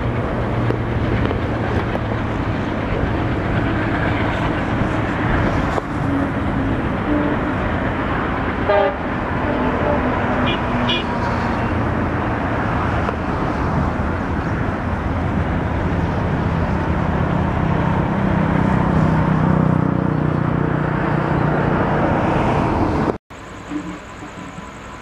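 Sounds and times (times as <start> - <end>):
passenger train running: 0.0 - 25.0
road traffic rumble: 0.0 - 25.0.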